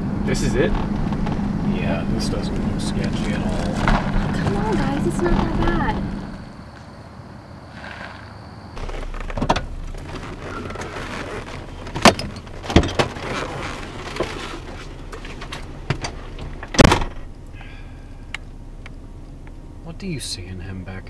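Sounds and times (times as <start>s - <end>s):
low hum inside car: 0.0s - 6.6s, 8.8s - 21.0s.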